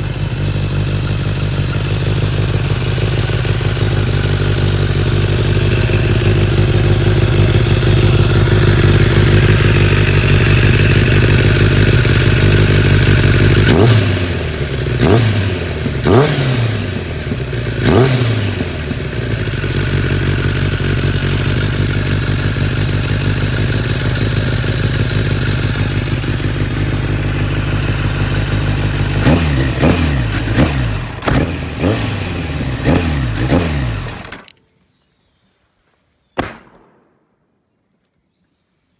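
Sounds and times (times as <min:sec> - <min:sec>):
motorcycle engine revving: 0:00.0 - 0:34.6.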